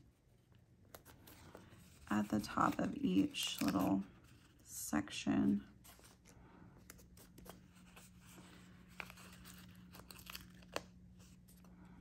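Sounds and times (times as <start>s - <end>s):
low steady hum: 0.0s - 12.0s
paper sticker sheet rustling: 0.8s - 4.7s, 5.7s - 11.7s.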